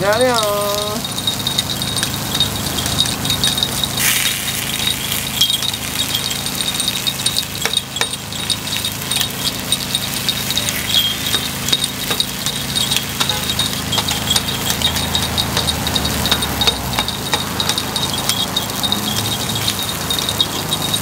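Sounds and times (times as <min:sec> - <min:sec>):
metal picks clinking on iron pan: 0:00.0 - 0:21.0.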